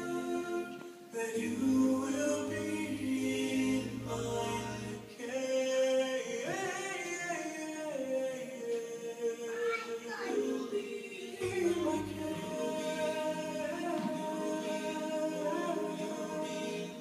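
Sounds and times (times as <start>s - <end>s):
children singing: 0.0s - 5.3s, 8.7s - 17.0s.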